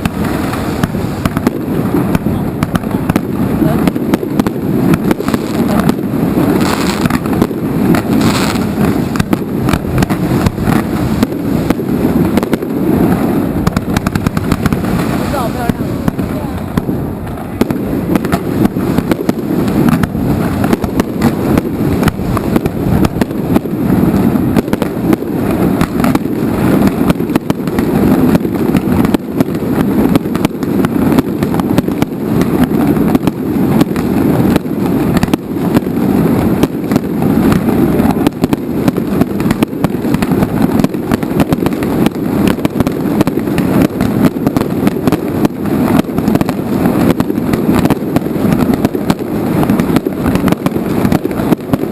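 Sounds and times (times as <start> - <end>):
fireworks bangs and crackles: 0.0 - 51.9
low rumble of booms: 0.0 - 51.9.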